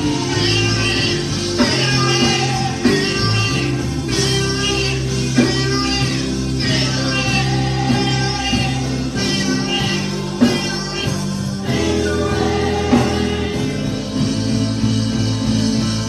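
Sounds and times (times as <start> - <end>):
gospel singers over a band: 0.0 - 16.0
held bass notes: 0.0 - 16.0
sharp drum beats: 0.0 - 16.0.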